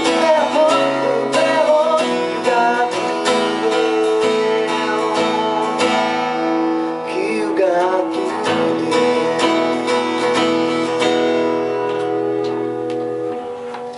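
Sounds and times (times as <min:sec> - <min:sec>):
acoustic guitar strumming chords: 0:00.0 - 0:13.9.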